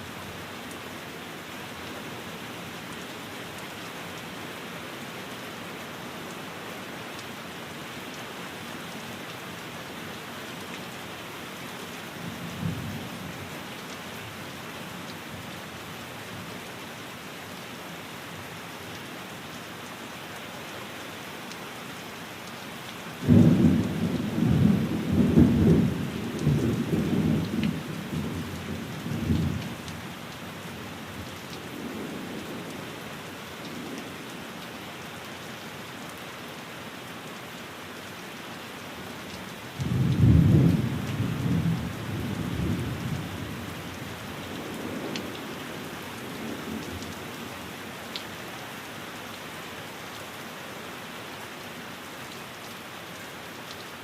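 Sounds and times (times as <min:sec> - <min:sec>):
rain falling on a window: 0:00.0 - 0:54.0.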